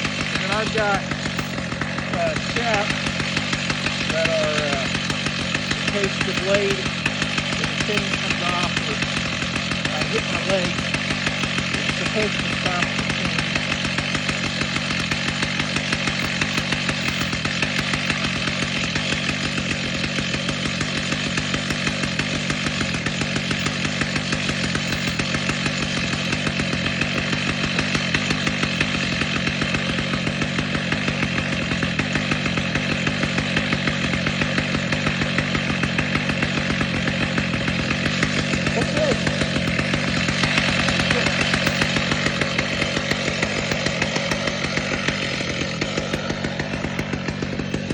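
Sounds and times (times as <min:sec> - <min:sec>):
chainsaw engine running: 0:00.0 - 0:47.9.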